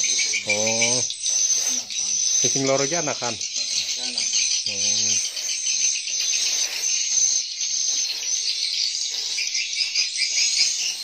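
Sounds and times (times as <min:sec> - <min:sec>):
swiftlets twittering: 0:00.0 - 0:11.0.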